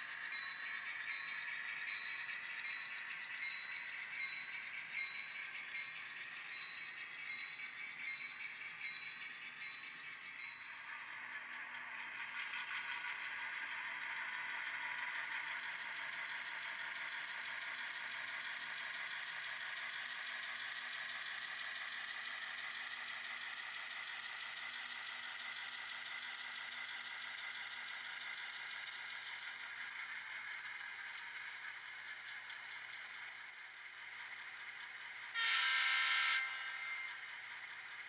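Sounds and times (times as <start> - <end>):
model train motors whirring: 0.0 - 38.0
wheels rattling on rail: 0.0 - 38.0.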